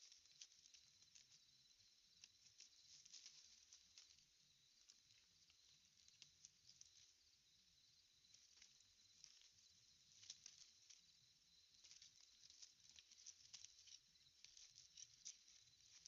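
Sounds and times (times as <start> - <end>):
small clicks and rustles: 0.0 - 16.0.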